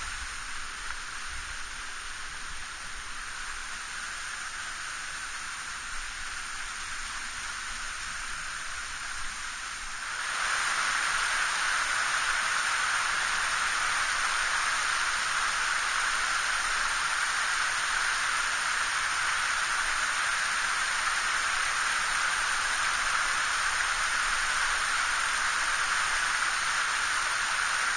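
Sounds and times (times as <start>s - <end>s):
stream water rushing: 0.0s - 27.9s.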